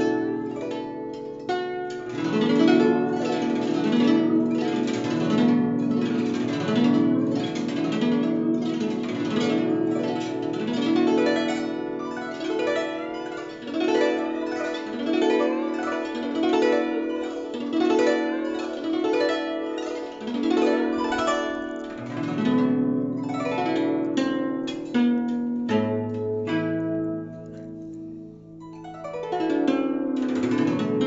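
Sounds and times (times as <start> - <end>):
guzheng plucked: 0.0 - 31.0.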